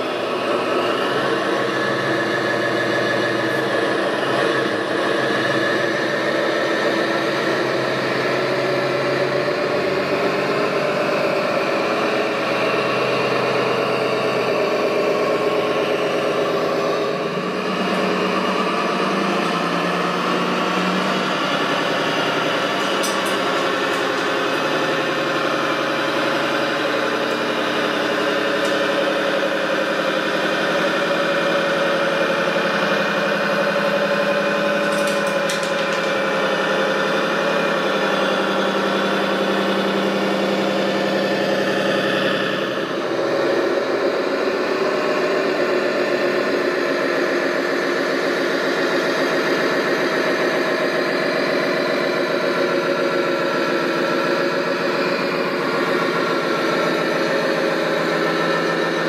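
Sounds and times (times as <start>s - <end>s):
simulated diesel engine idling: 0.0s - 59.0s.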